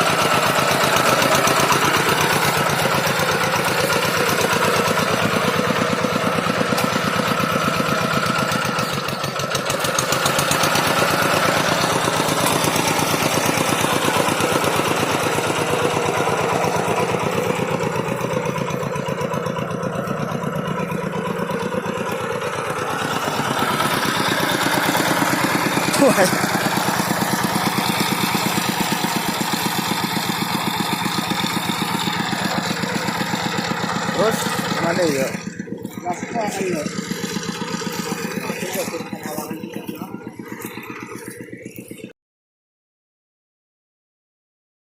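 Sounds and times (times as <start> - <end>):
tractor engine running: 0.0 - 42.2.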